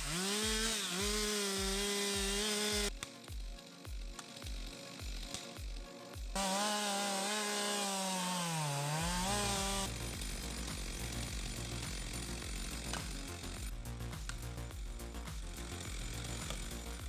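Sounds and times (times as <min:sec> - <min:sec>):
low steady beat: 0:00.0 - 0:06.7, 0:08.9 - 0:17.0
chainsaw running at high revs: 0:00.0 - 0:17.0.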